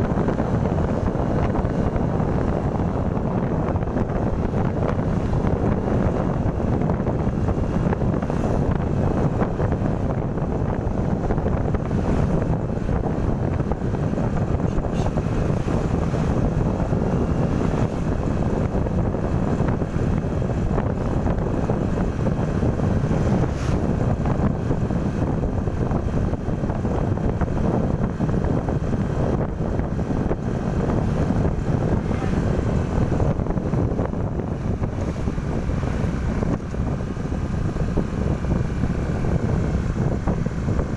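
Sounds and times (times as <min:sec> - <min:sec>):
vehicle rumble: 0:00.0 - 0:40.9
wind buffeting microphone: 0:00.0 - 0:40.9.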